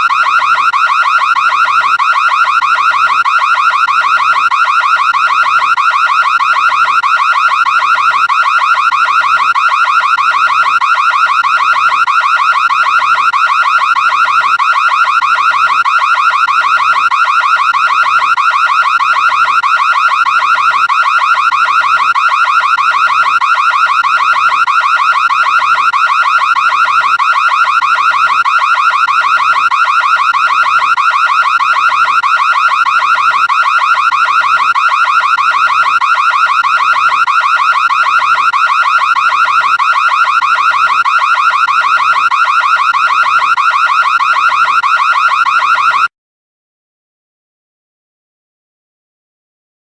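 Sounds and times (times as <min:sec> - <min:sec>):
pulsing electronic alarm tone: 0:00.0 - 0:46.1.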